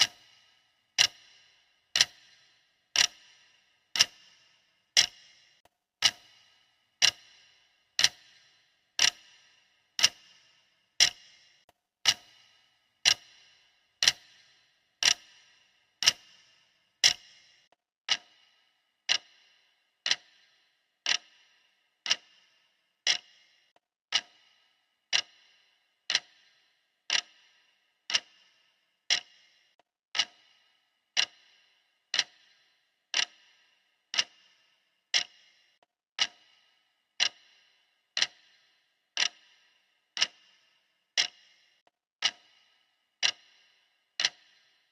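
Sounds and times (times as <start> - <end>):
clock ticking: 0.0 - 44.9.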